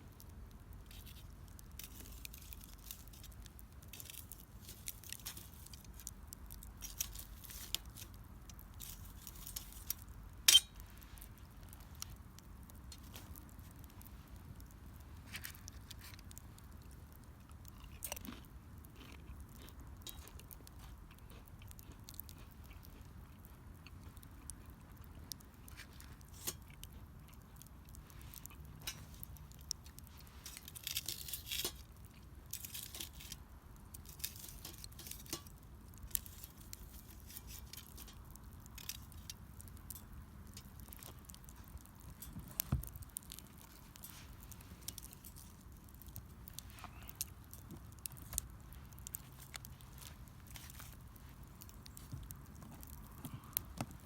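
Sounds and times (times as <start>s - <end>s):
burning wood crackling: 0.0s - 54.0s.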